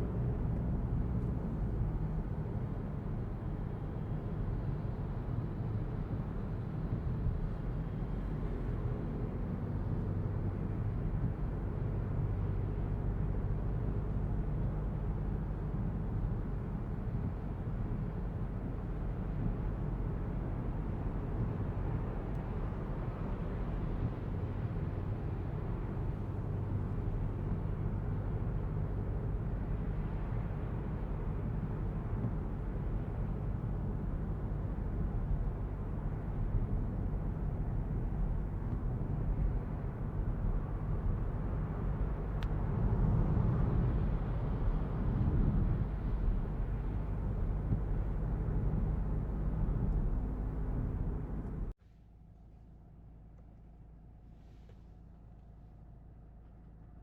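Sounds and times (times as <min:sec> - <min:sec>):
diesel engine drone: 0:00.0 - 0:51.8
road and tyre noise: 0:00.0 - 0:51.8.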